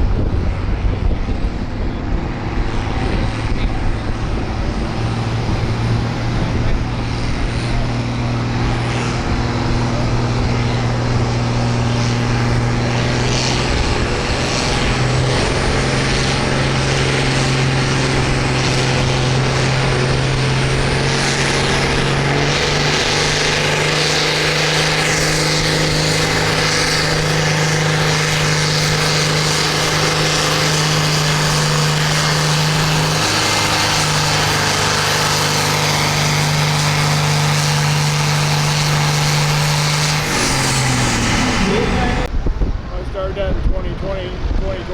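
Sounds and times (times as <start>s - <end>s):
tractor engine running under load: 0.0s - 42.3s.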